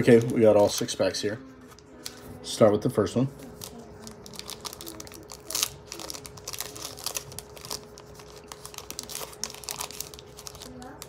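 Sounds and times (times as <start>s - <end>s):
wrapper crinkling and tearing: 0.0s - 2.2s, 3.4s - 11.0s.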